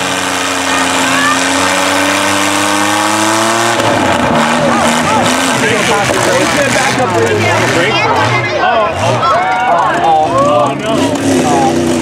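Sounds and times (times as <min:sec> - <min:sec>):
engine revving with rising pitch: 0:00.0 - 0:12.0
pickup truck engines running: 0:00.0 - 0:12.0.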